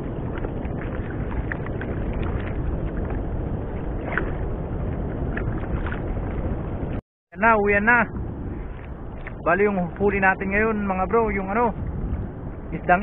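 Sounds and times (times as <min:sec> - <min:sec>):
sea water against boat: 0:00.0 - 0:13.0
wind noise on microphone: 0:00.0 - 0:13.0.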